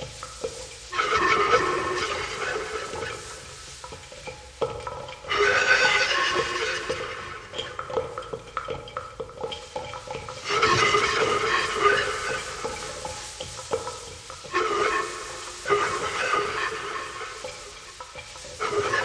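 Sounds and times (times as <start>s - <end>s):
rattle shaking: 0.0s - 19.0s.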